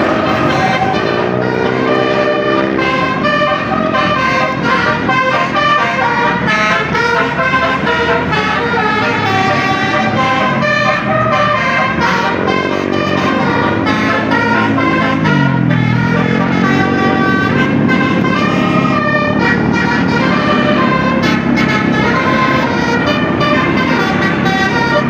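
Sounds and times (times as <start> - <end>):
multi-tone air horn melody: 0.0 - 25.0.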